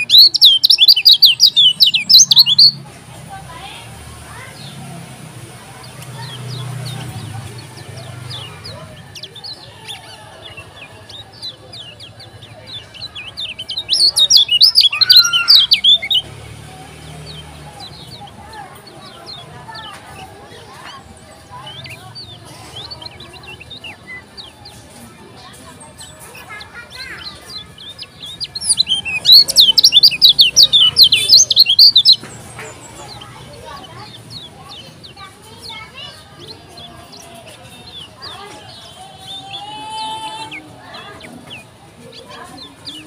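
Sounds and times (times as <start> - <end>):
bird chirping and singing: 0.0 - 2.8, 5.8 - 43.0.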